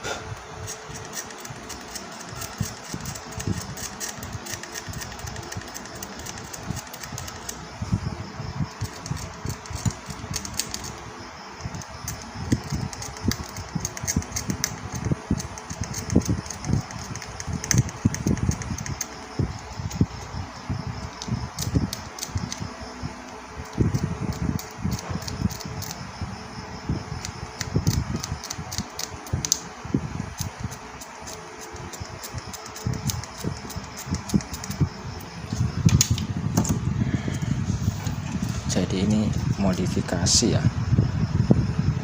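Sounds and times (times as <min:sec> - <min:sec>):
steady whirring: 0:00.0 - 0:42.0.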